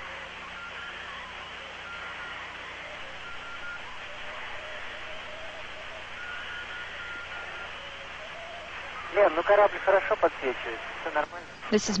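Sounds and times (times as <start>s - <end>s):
radio channel hiss: 0.0s - 12.0s.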